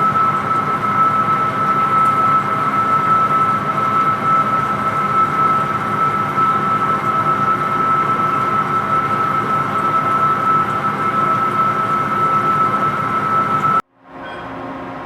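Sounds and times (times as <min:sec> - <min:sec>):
metal lathe running: 0:00.0 - 0:13.8
high steady whine: 0:00.0 - 0:14.4.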